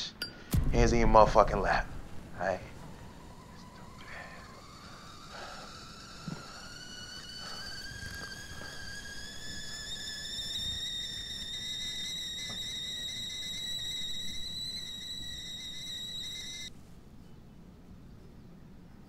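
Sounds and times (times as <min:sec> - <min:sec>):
sustained high-pitched tone: 0:01.0 - 0:16.7.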